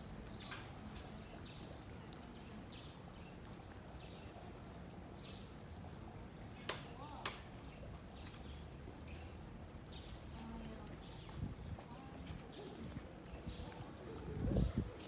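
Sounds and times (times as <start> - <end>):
low hum of street background: 0.0 - 15.0.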